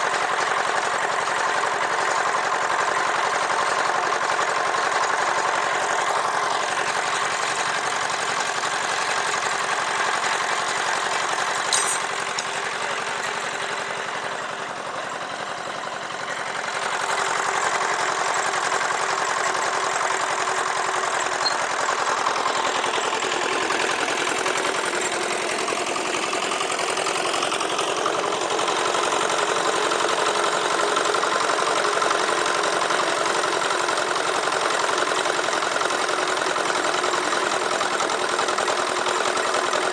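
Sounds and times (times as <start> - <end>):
concrete mixer diesel engine: 0.0 - 39.9.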